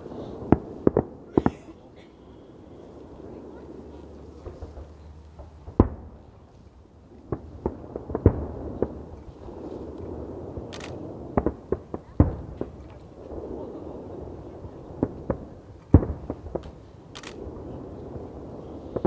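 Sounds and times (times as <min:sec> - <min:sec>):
firework bangs: 0:00.0 - 0:06.4, 0:07.2 - 0:19.0.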